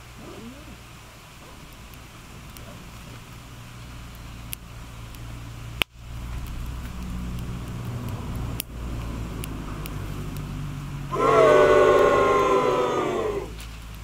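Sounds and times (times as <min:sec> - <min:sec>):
fire crackling and popping: 0:00.0 - 0:14.0
steady low hum: 0:00.0 - 0:14.0.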